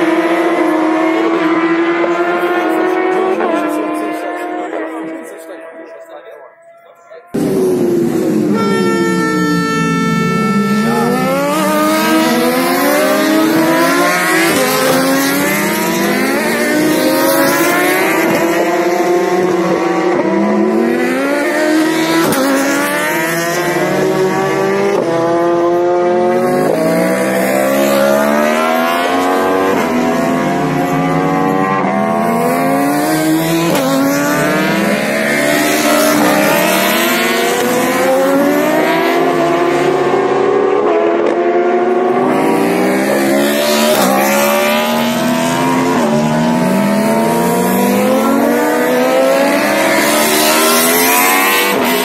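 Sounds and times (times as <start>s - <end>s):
racing motorcycles at full throttle: 0.0s - 52.0s.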